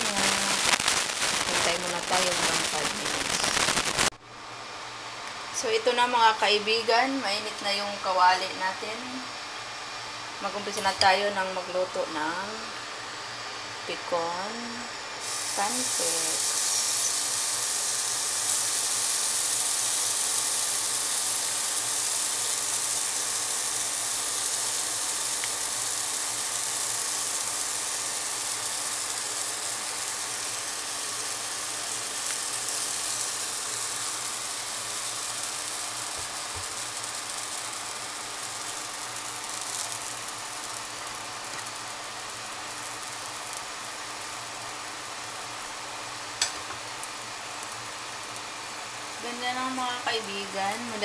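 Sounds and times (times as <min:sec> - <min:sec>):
batter sizzling in oil: 0:00.0 - 0:04.2, 0:09.6 - 0:51.0.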